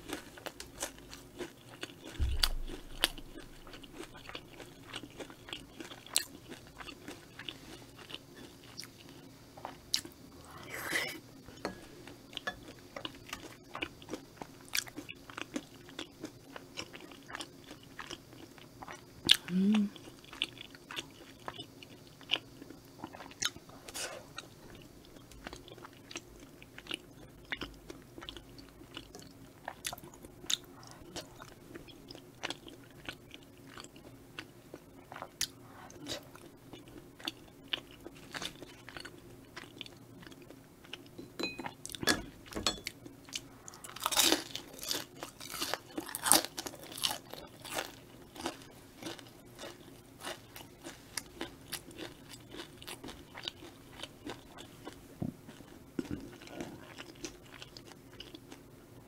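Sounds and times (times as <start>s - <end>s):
crunching fried food: 0.0s - 10.2s, 12.0s - 41.1s, 43.1s - 58.7s.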